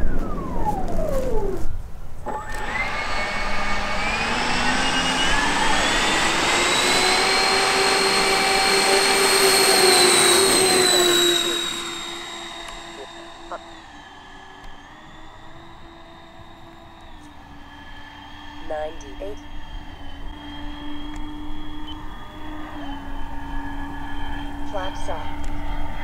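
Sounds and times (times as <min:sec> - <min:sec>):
electric ducted fans whining: 0:00.0 - 0:26.0.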